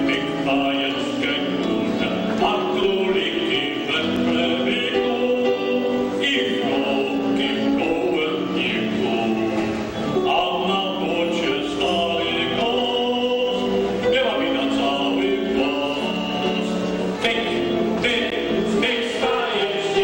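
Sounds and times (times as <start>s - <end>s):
man singing into a microphone: 0.0s - 20.0s
vocal group singing: 0.0s - 20.0s.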